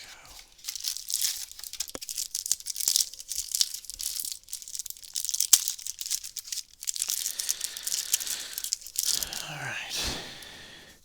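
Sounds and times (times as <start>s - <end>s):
wrapper tearing and crinkling: 0.0s - 10.6s.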